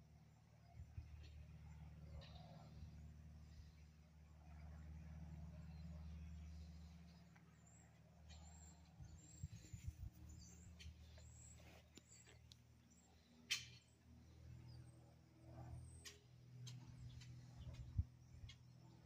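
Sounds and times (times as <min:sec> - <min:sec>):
faint low drone: 0:00.0 - 0:19.0.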